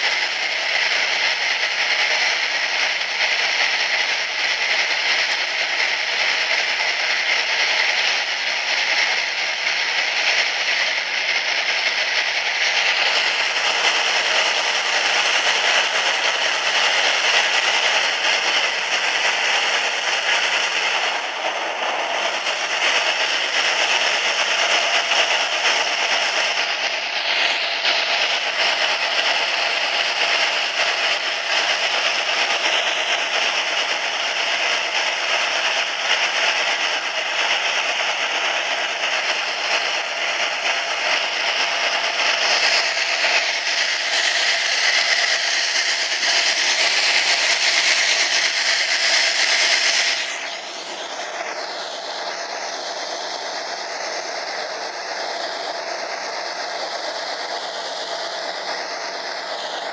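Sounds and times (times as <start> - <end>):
train rushing through tunnel: 0.0 - 59.9.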